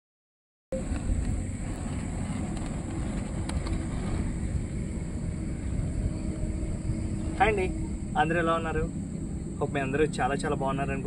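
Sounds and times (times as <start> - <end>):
outdoor background rumble: 0.7 - 11.0.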